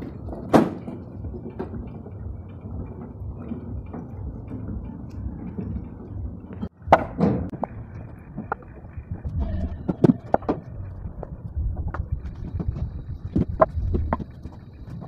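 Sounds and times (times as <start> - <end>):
low steady rumble: 0.0 - 15.0
wooden blocks clunking: 0.0 - 15.0.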